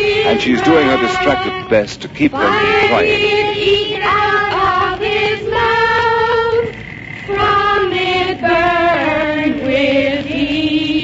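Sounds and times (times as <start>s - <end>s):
children and woman singing: 0.0s - 11.0s.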